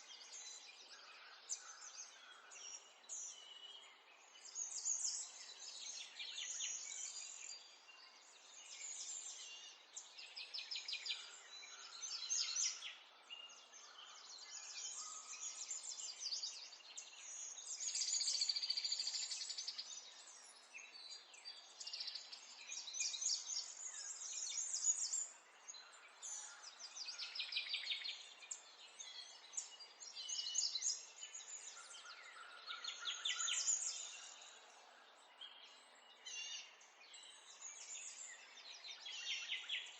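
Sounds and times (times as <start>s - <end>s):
small songbirds singing: 0.0s - 39.9s.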